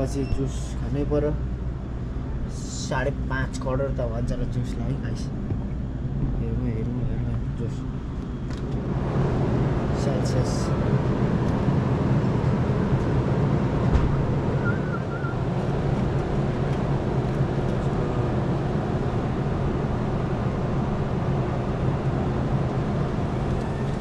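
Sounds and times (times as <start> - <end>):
motor vehicle engine rumbling: 0.0 - 24.0.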